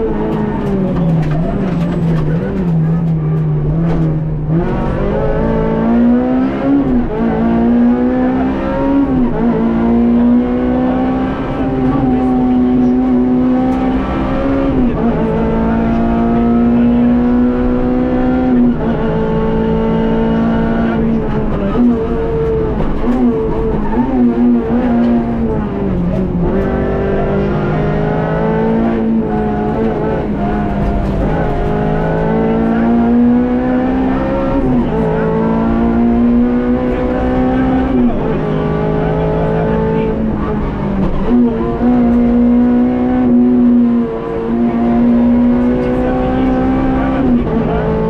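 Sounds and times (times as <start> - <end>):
rally car engine at high revs: 0.0 - 48.0.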